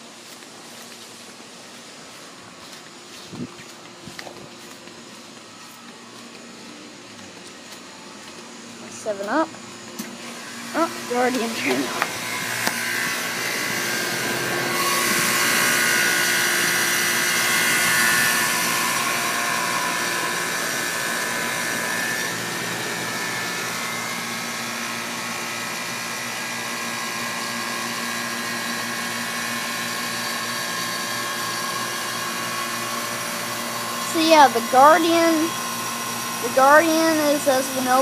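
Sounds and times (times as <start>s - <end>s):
air conditioner humming: 0.0s - 38.0s.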